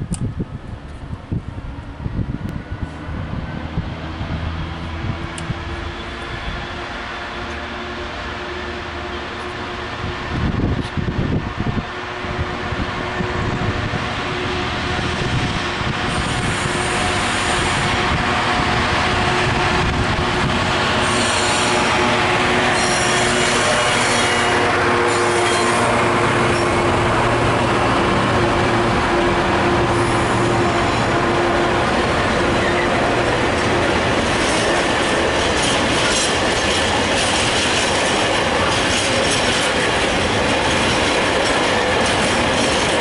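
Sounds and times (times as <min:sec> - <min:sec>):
diesel locomotive engine rumble: 0:00.0 - 0:43.0
train wheels on rails: 0:00.0 - 0:43.0.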